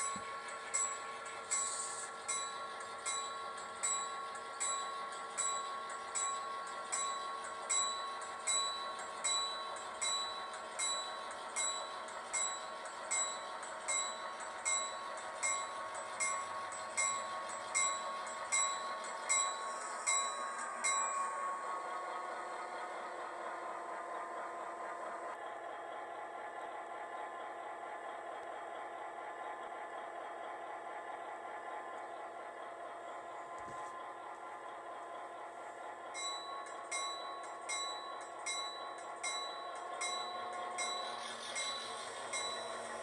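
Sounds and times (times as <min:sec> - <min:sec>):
model locomotives humming: 0:00.0 - 0:43.0.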